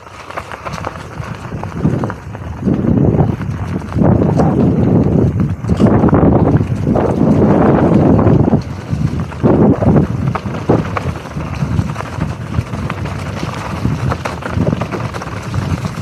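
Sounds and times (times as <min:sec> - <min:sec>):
bike clicks and rattles: 0:00.0 - 0:16.0
tyres rolling on dirt and leaves: 0:00.0 - 0:16.0
wind buffeting microphone: 0:00.0 - 0:16.0.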